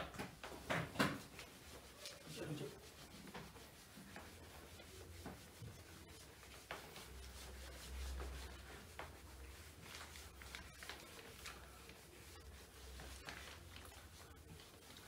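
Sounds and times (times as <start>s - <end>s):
eraser rubbing on whiteboard: 0.8s - 15.0s.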